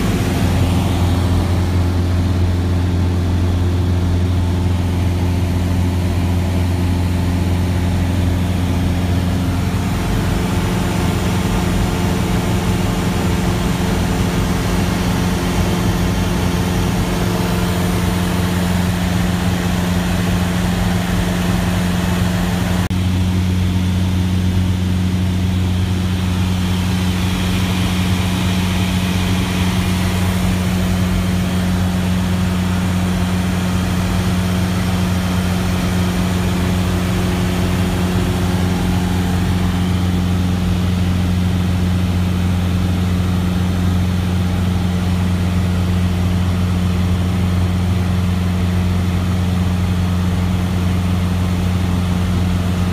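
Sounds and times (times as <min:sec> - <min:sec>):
plane engine droning in cabin: 0:00.0 - 0:52.9.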